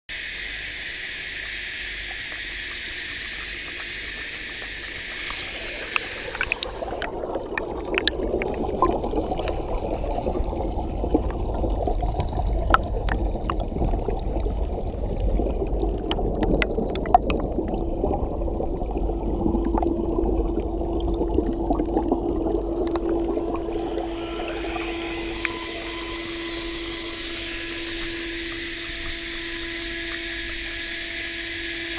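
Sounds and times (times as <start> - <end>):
underwater clicks and crackles: 2.0 - 31.0
muffled underwater bubble churn: 2.0 - 31.9
water bubbling and splashing: 2.2 - 31.4.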